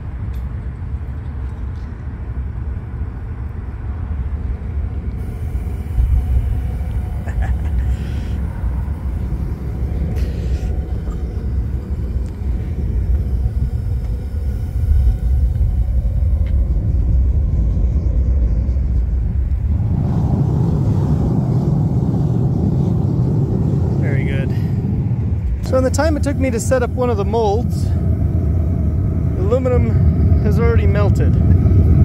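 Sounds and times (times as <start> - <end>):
gas burners rumbling: 0.0 - 32.0.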